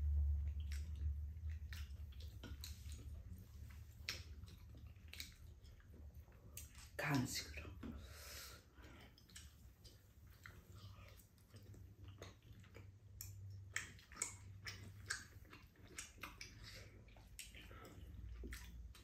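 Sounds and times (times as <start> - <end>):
person chewing food: 0.0 - 7.0, 7.6 - 19.0.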